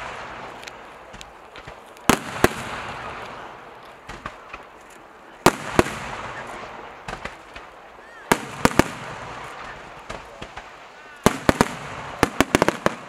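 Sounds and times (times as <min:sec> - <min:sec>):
fireworks bursting with loud bangs: 0:00.0 - 0:13.0
fireworks crackle and hiss: 0:00.0 - 0:13.0.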